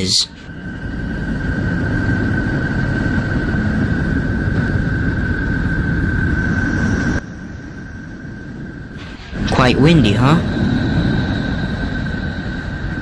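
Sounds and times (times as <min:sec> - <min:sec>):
low windy rumble: 0:00.0 - 0:13.0.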